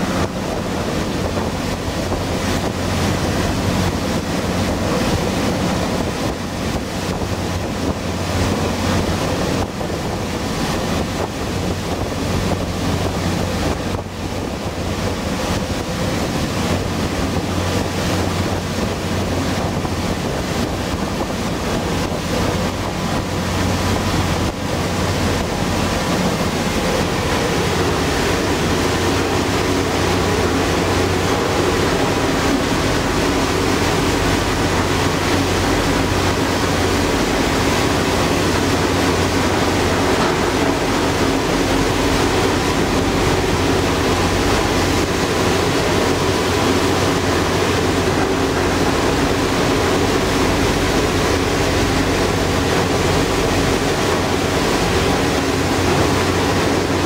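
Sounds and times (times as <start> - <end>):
ferry engine droning: 0.0 - 57.0
water rushing from hull: 0.0 - 57.0.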